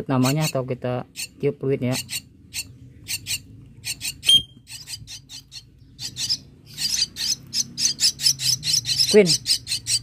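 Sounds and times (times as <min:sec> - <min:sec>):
nestlings raspy begging calls: 0:00.1 - 0:10.0.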